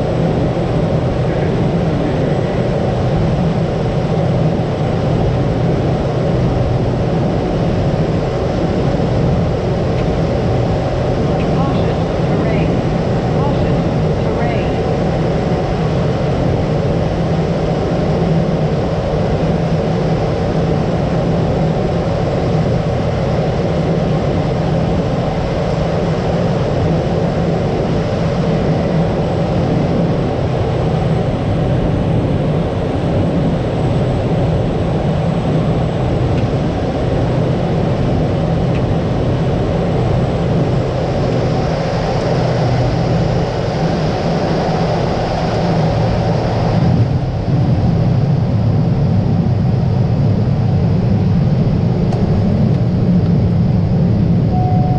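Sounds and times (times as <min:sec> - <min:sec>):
turboprop engine drone: 0:00.0 - 0:54.9.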